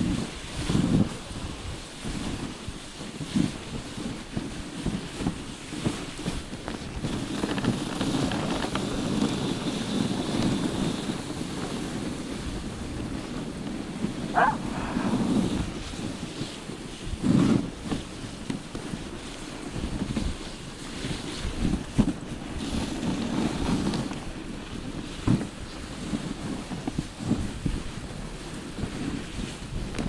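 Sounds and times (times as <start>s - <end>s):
sled runners scraping on snow: 0.0s - 30.0s
wind buffeting microphone: 0.0s - 30.0s.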